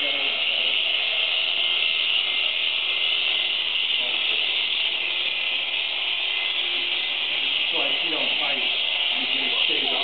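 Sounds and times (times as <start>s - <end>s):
electric shears buzzing: 0.0s - 10.0s.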